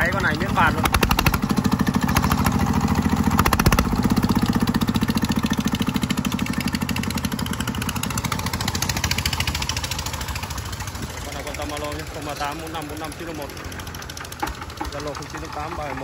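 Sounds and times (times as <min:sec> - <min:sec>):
diesel engine chugging: 0:00.0 - 0:16.0
loud engine knock: 0:00.0 - 0:16.0.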